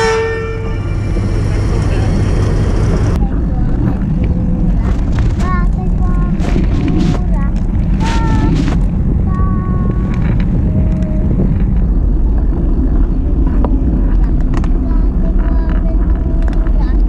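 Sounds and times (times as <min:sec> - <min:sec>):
bike tyres rumbling on asphalt: 0:00.0 - 0:17.0
wind buffeting microphone: 0:00.0 - 0:17.0.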